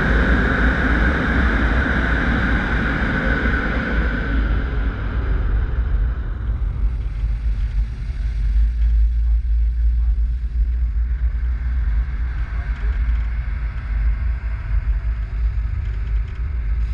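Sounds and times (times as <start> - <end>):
car driving slowly on pavement: 0.0 - 16.9.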